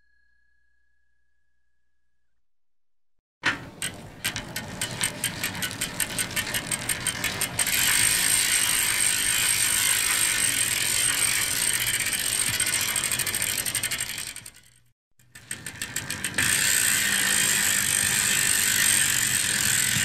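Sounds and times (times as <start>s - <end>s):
bicycle freewheel ratchet ticking: 3.8s - 20.0s.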